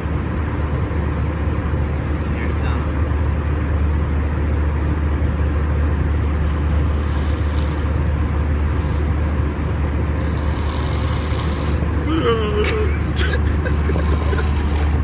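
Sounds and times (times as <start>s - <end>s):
airliner cabin drone in flight: 0.0s - 15.0s.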